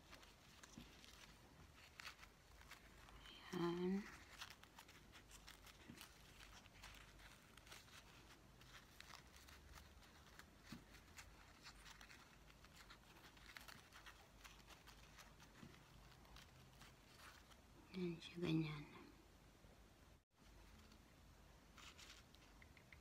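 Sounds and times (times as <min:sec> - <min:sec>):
faint rustles: 0:00.0 - 0:18.0, 0:20.3 - 0:23.0.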